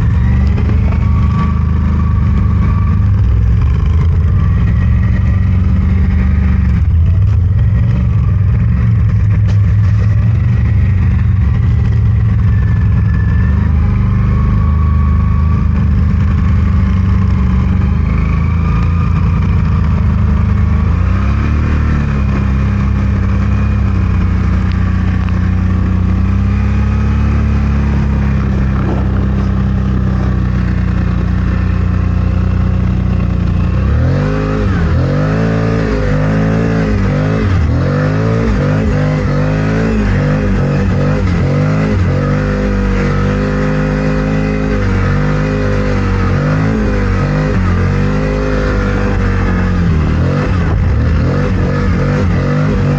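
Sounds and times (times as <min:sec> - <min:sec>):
vehicle engine running under load: 0:00.0 - 0:52.9.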